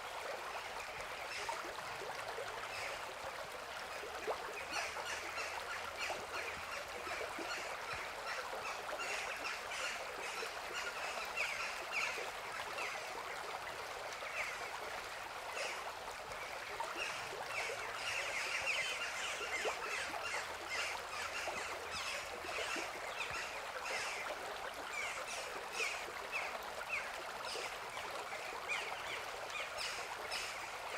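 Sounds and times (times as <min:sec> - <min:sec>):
river flowing: 0:00.0 - 0:30.9.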